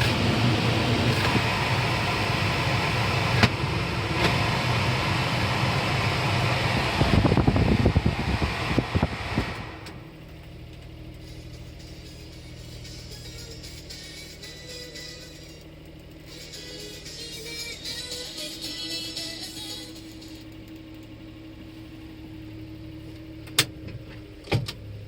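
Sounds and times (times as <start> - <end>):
road and cabin noise: 0.0 - 25.0
small truck engine running: 0.0 - 25.0.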